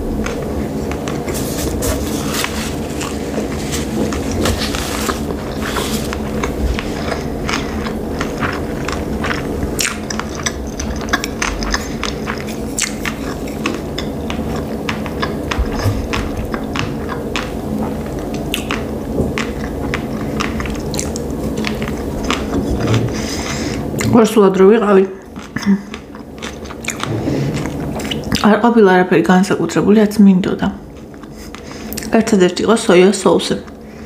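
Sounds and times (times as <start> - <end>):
person chewing: 0.0 - 24.2, 25.2 - 28.4, 31.1 - 32.1
steady low hum: 0.0 - 34.0.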